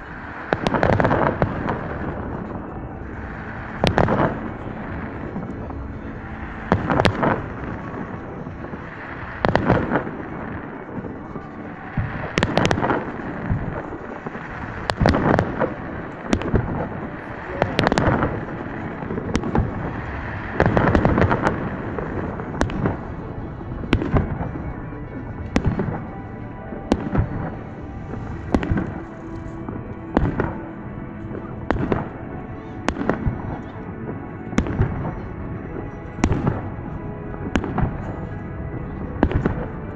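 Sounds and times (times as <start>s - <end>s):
fireworks bangs: 0.0s - 36.8s, 37.4s - 39.9s
fireworks crackle: 0.0s - 39.9s.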